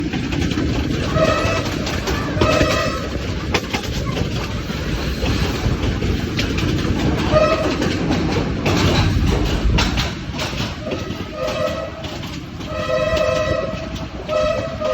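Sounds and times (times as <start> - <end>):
train rumble and rail clatter: 0.0 - 14.9.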